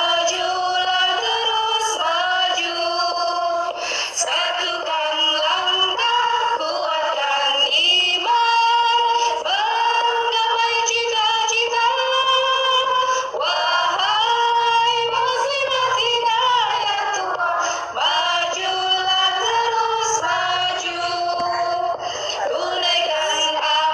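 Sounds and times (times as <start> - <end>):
woman singing: 0.0 - 23.9.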